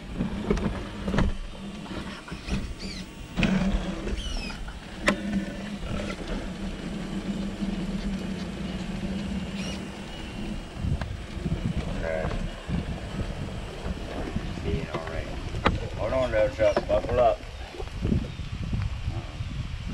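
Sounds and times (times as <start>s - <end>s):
tyres and chassis scraping: 0.0s - 17.4s
electric motor humming: 0.0s - 18.2s.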